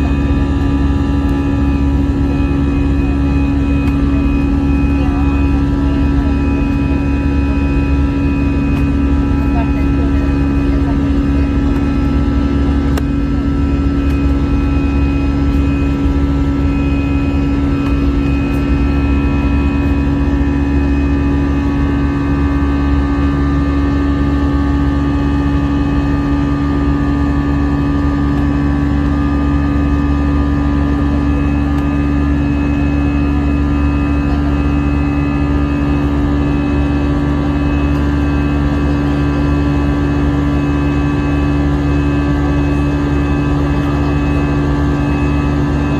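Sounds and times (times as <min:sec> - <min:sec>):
airliner cabin engine drone: 0:00.0 - 0:45.9.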